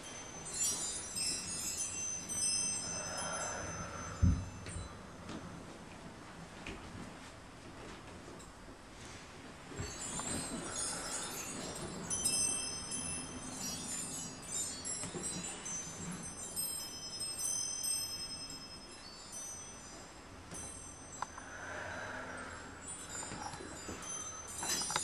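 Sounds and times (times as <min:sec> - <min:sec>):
metal chimes ringing: 0:00.0 - 0:05.6, 0:09.8 - 0:25.0.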